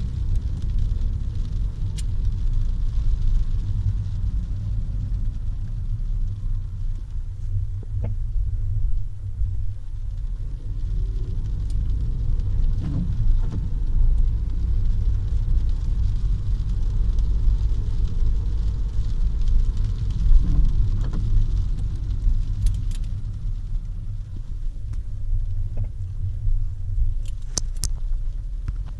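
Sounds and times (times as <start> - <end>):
low road rumble: 0.0 - 28.9.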